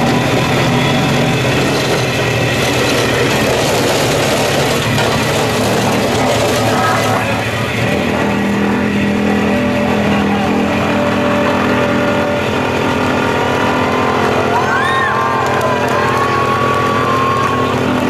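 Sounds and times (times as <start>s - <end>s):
steamroller engine running: 0.0s - 18.0s.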